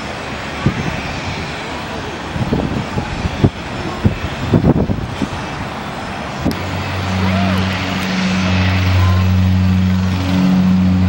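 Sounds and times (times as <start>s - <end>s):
jet engines rushing: 0.0s - 11.0s
wind buffeting microphone: 0.0s - 11.0s.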